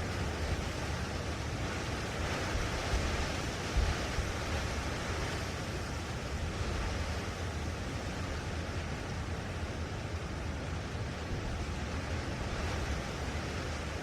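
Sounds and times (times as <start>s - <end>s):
wind gusts buffeting microphone: 0.0s - 14.0s.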